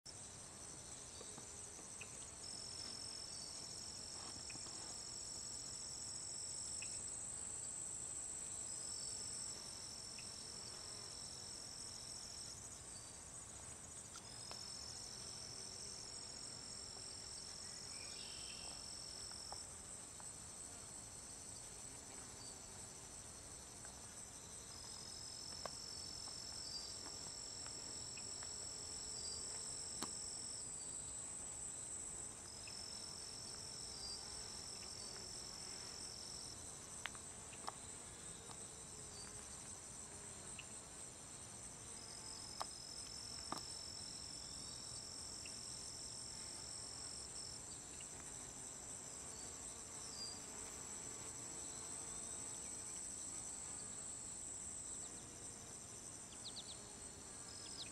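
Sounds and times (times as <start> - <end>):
lower insect trill: 0.1 - 57.9
insects trilling: 0.2 - 57.9.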